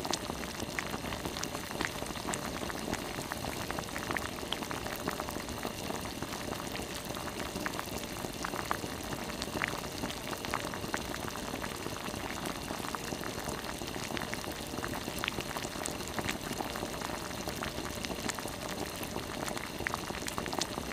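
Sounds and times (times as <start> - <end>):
broth bubbling in a pot: 0.0 - 20.9.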